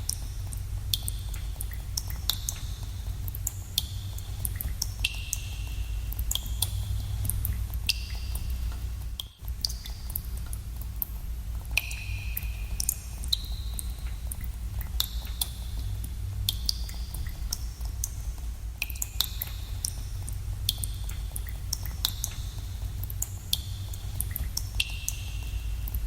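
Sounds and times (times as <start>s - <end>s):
water drops plinking in cave: 0.0s - 26.0s.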